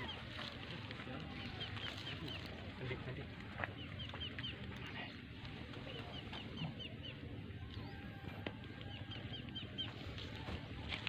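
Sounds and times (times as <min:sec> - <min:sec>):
low outdoor rumble: 0:00.0 - 0:11.0
songbird chirping: 0:00.0 - 0:11.0.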